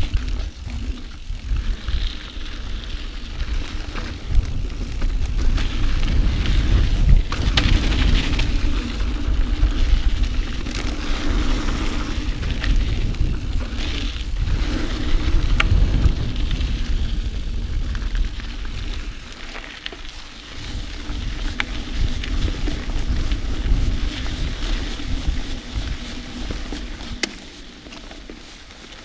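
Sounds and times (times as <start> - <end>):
wind on microphone: 0.0 - 19.3, 20.4 - 27.7
bike tyres rolling on dirt: 0.0 - 29.0.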